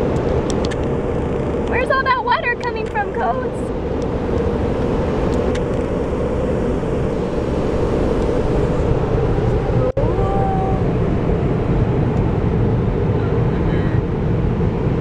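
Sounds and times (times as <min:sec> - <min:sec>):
car wash machinery and spray: 0:00.0 - 0:15.0
dryer blower whine: 0:03.0 - 0:15.0.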